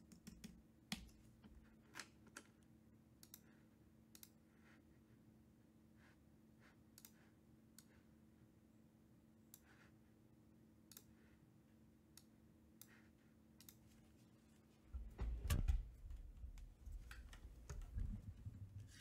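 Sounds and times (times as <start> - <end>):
low steady hum: 0.1 - 19.0.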